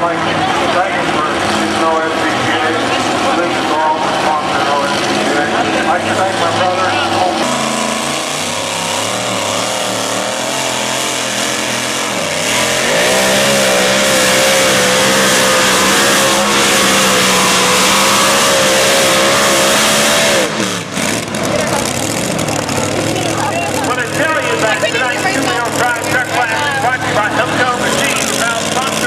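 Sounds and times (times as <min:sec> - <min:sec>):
pulling vehicle engine at full throttle: 0:00.0 - 0:29.0.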